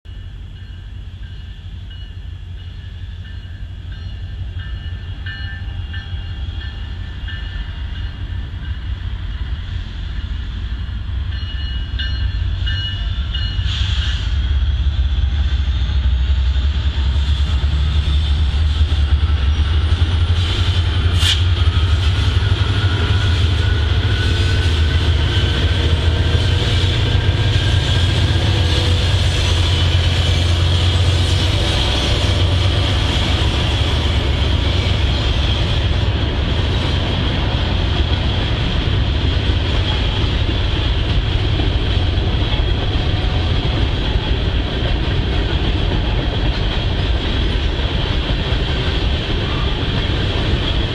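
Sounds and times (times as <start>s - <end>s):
diesel locomotive rumble: 0.1s - 50.9s
train wheels on rails: 0.1s - 50.9s.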